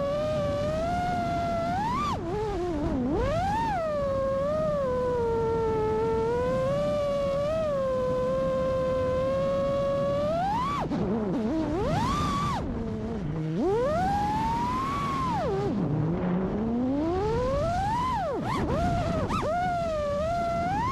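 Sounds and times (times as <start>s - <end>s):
drone motors whining: 0.0s - 20.9s.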